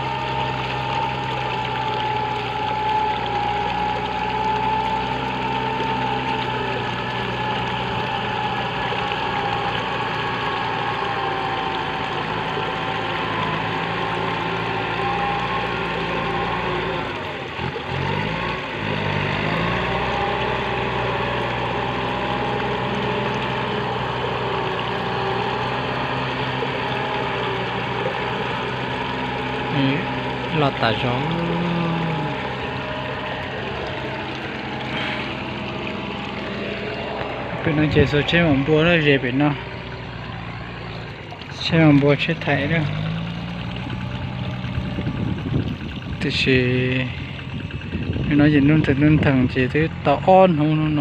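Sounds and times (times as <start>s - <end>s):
tractor diesel engine under load: 0.0s - 51.0s.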